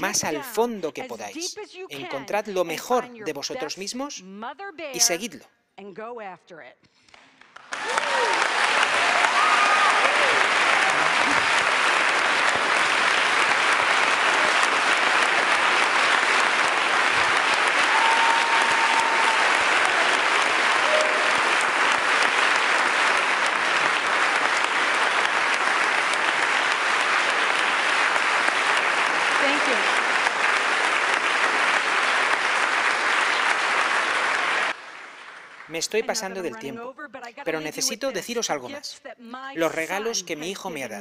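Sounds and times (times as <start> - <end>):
audience applauding: 0.0 - 4.2, 5.0 - 5.4, 7.0 - 36.8, 37.5 - 38.8, 39.6 - 41.0.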